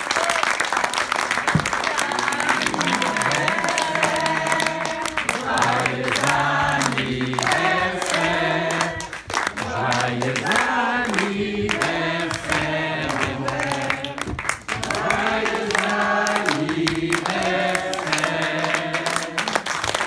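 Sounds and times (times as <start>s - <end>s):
people clapping: 0.0s - 20.0s
crowd singing: 1.5s - 19.9s.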